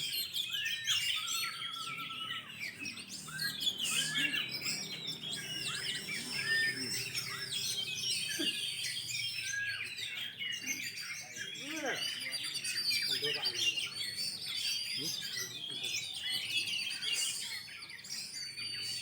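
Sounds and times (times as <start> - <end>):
birds singing whistles and trills: 0.0 - 19.0.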